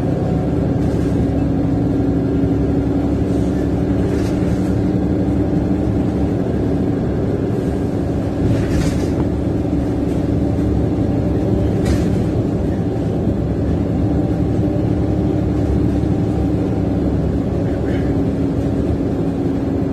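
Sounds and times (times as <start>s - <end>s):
bus diesel engine drone: 0.0s - 19.9s.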